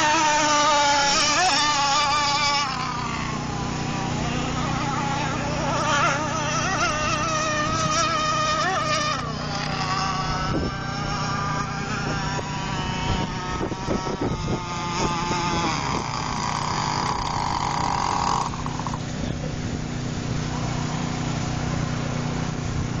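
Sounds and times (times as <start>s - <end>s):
low steady hum: 0.0s - 23.0s
rc boat engine whining: 0.0s - 23.0s.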